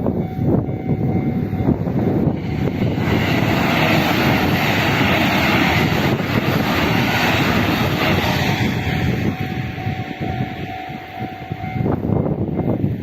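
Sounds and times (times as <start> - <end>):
train passing level crossing: 0.0 - 13.0.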